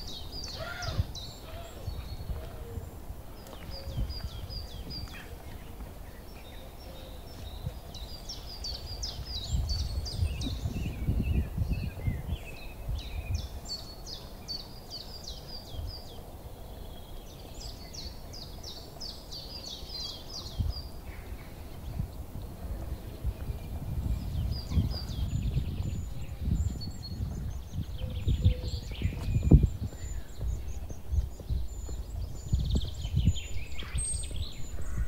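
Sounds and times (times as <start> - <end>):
outdoor background noise: 0.0 - 35.0
songbird singing: 0.0 - 35.0.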